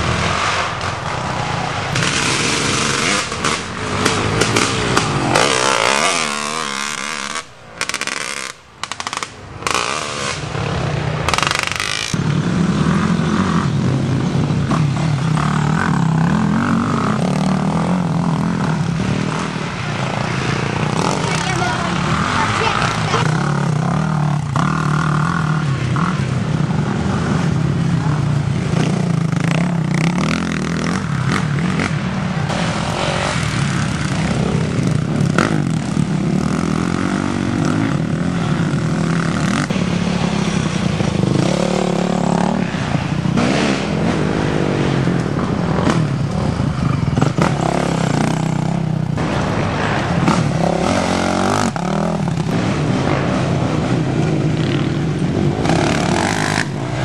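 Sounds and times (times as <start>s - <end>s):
quad engines revving: 0.0s - 57.0s.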